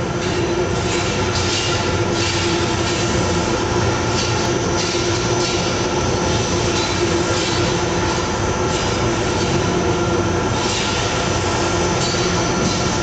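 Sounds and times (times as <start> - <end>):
constant machine hum: 0.0 - 13.0
factory machinery din: 0.0 - 13.0.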